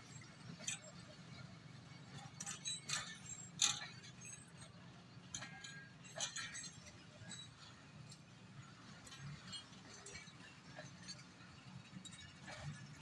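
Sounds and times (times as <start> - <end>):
metallic clicks from wheels: 2.3 - 13.0.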